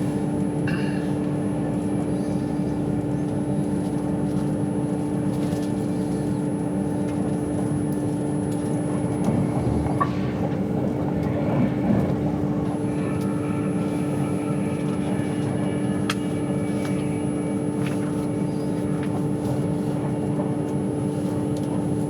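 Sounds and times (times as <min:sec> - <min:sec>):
train running rumble and hum: 0:00.0 - 0:22.0.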